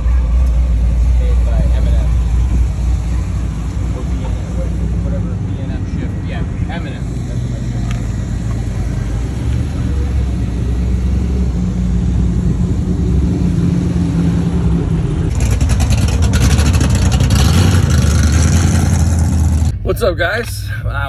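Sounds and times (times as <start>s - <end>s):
engine crackle: 0.0s - 21.0s
vehicle engine idling: 0.0s - 21.0s.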